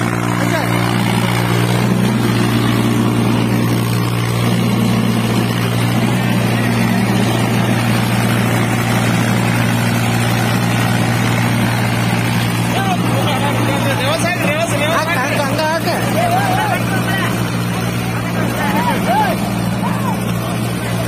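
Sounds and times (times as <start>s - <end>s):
tractor diesel engines under load: 0.0s - 21.0s.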